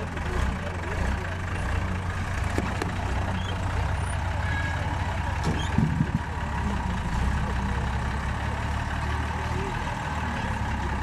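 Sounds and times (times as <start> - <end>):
truck engine at low revs: 0.0 - 11.0.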